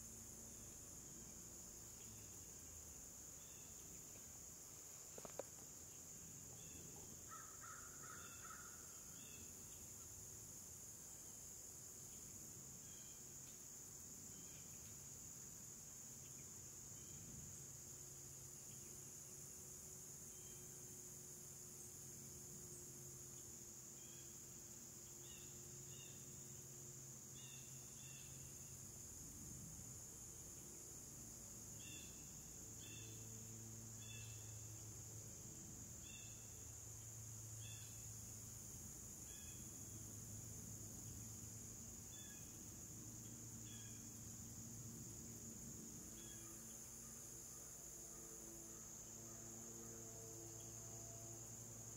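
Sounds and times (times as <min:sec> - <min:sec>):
high insect drone: 0:00.0 - 0:51.9.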